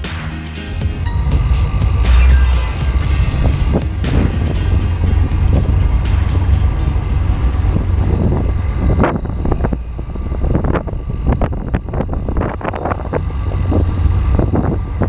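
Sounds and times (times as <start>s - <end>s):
car engine rumbling: 0.8s - 15.0s
wind buffeting microphone: 0.9s - 15.0s.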